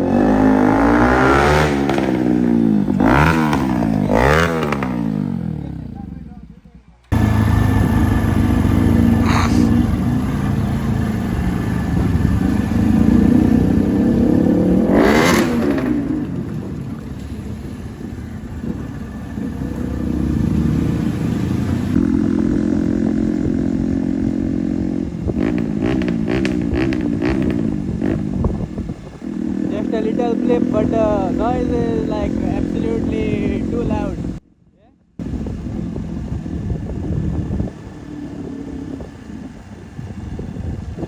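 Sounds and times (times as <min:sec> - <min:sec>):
exhaust cracks: 0:00.0 - 0:34.4
motorcycle engine idling and revving: 0:00.0 - 0:41.0.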